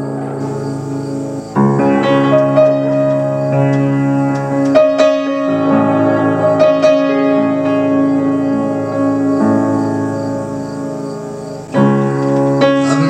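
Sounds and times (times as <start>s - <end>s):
piano ballad chords: 0.0s - 13.0s.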